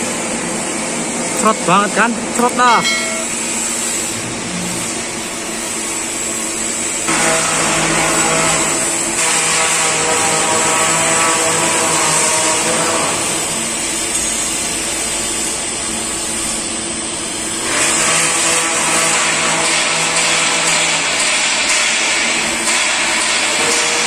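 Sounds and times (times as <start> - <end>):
welding arc hiss: 0.0 - 24.0.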